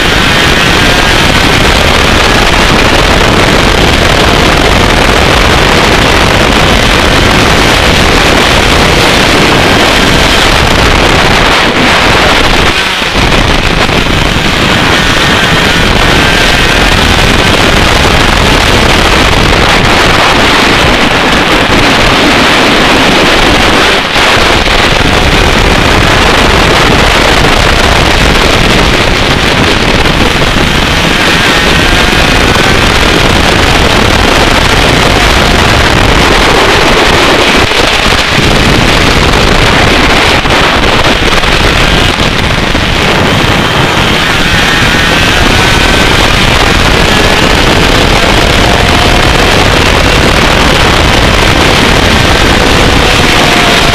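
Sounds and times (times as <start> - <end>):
kart engine racing: 0.0 - 53.9
wind rush on microphone: 0.0 - 53.9.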